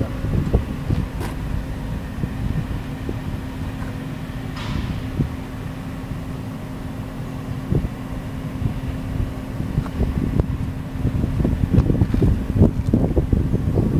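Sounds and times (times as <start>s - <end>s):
gasoline engine running steadily: 0.0s - 13.9s
wind buffeting microphone: 0.0s - 13.9s.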